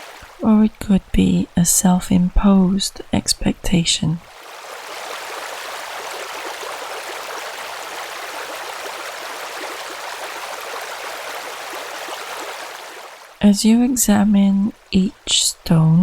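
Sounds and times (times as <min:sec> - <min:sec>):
stream running water: 0:00.0 - 0:16.0.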